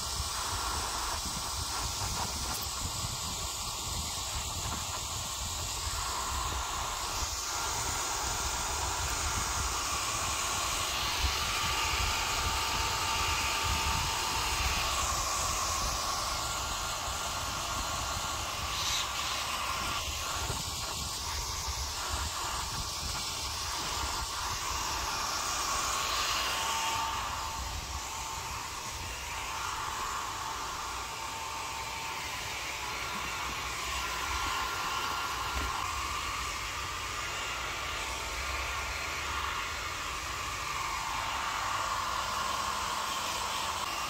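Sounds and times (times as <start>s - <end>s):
hair dryer blowing air: 0.0s - 44.0s.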